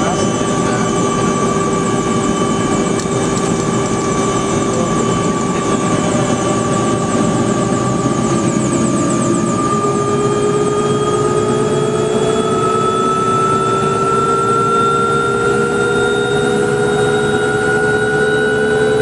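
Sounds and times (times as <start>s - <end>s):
helicopter turbine whine: 0.0s - 19.0s.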